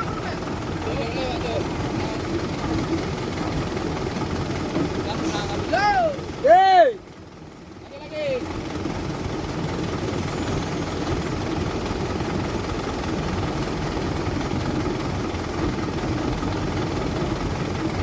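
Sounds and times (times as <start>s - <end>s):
excavator diesel engine rumble: 0.0s - 18.0s.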